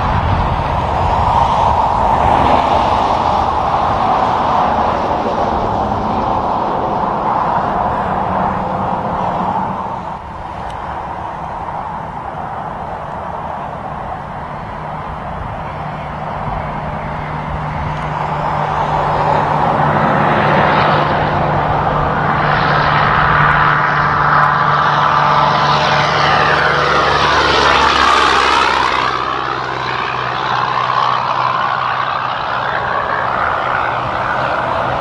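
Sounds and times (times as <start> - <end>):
traffic: 0.0 - 35.0
truck passing by: 0.0 - 35.0.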